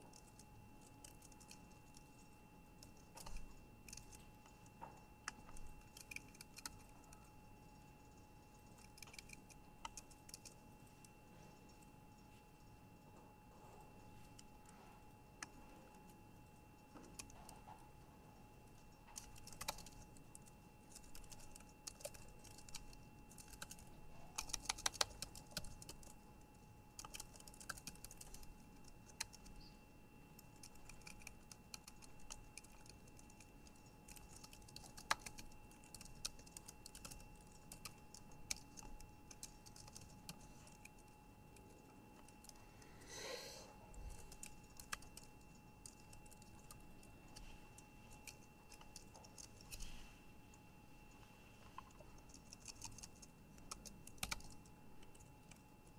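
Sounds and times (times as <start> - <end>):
keyboard typing: 0.0 - 12.7, 16.8 - 17.8, 18.6 - 42.6, 43.9 - 49.9, 51.1 - 55.9
faint steady whine: 0.0 - 55.9.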